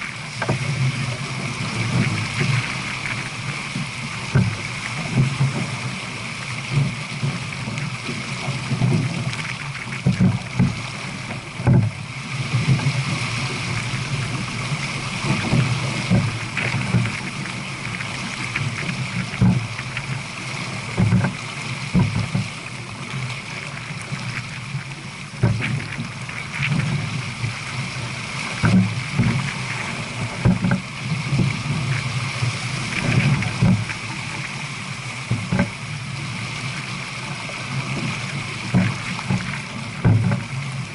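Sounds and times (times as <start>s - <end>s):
water rushing along boat hull: 0.0s - 40.9s.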